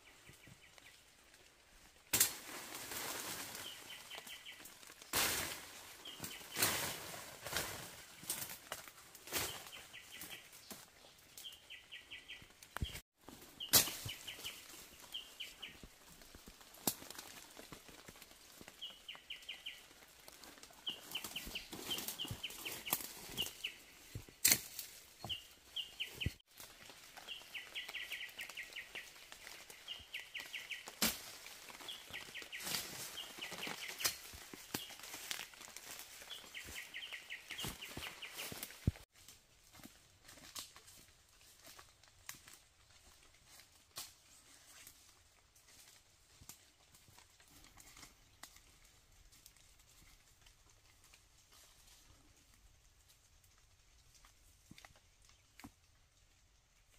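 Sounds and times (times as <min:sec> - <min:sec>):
footsteps through undergrowth: 0:00.0 - 0:55.8
twigs and dry leaves crackling: 0:00.0 - 0:56.9.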